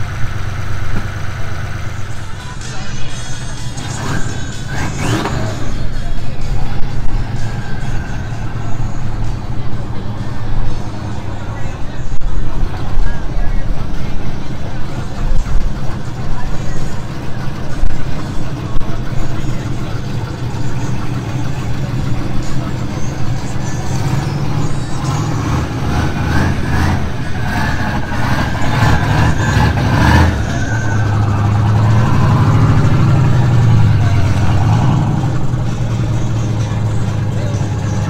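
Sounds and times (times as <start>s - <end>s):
car engines idling: 0.0s - 38.0s
car pulling away: 0.0s - 38.0s.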